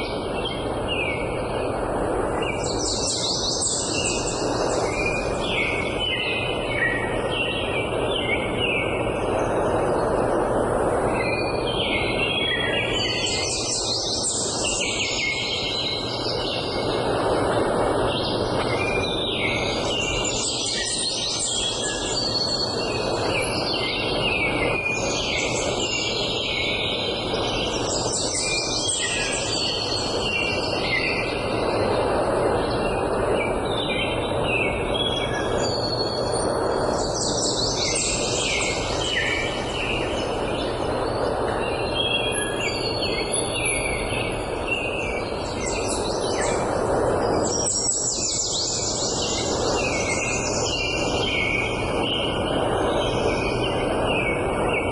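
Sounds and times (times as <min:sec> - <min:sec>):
songbirds singing and chirping: 0:00.0 - 0:54.9.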